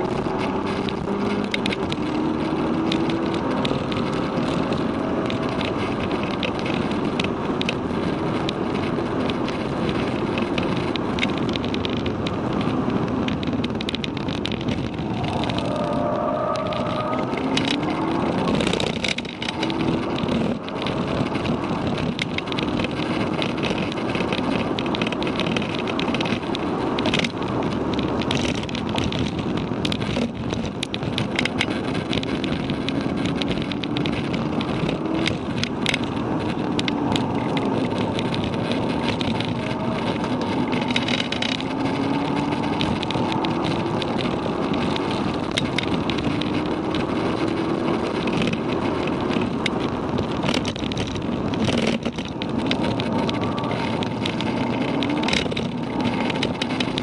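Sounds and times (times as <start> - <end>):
car engine revving: 0.0 - 57.0
wind and tyre noise: 0.0 - 57.0.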